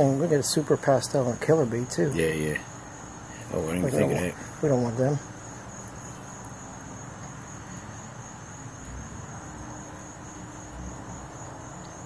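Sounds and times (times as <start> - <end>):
background hiss: 0.0 - 12.0
crickets trilling: 0.0 - 12.0.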